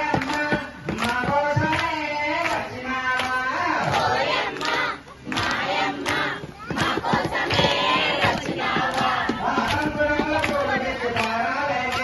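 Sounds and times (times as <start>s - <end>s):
group chanting in unison: 0.0s - 12.0s
hand claps: 0.0s - 12.0s.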